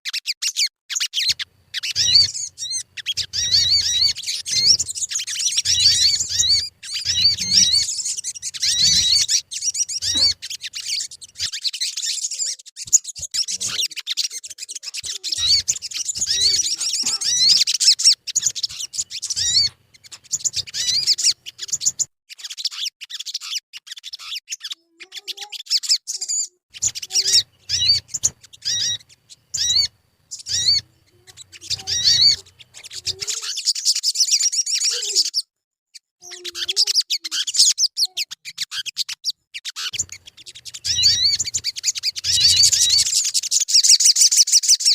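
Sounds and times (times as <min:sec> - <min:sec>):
birds chirping and twittering: 0:00.1 - 0:44.9.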